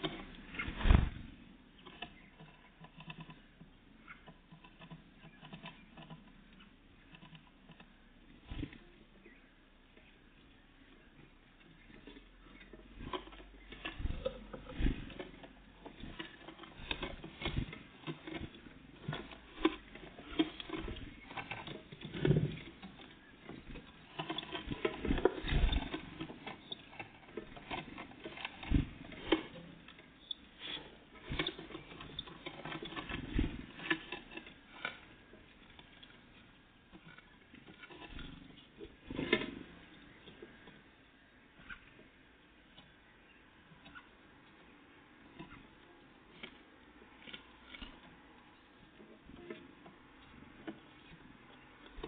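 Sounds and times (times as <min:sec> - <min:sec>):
birds pecking at a feeder: 0:00.0 - 0:52.0.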